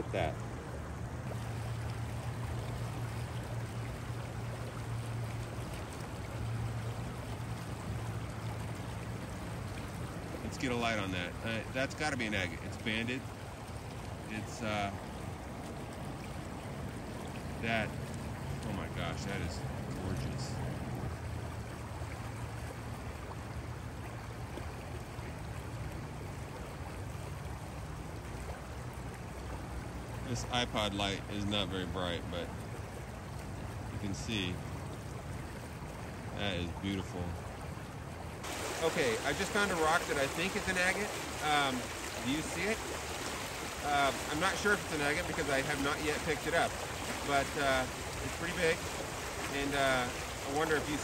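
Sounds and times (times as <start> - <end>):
river water flowing: 0.0 - 51.0.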